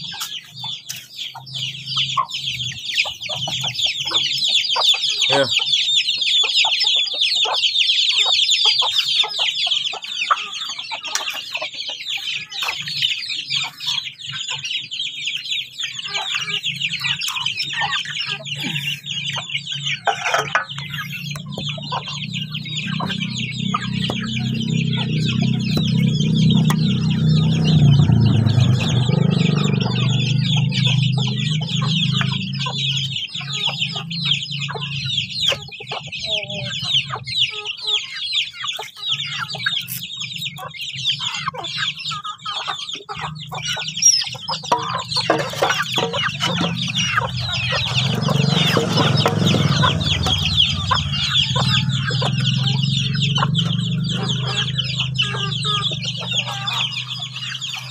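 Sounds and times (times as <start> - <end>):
chicks peeping and clucking: 0.0 - 57.9.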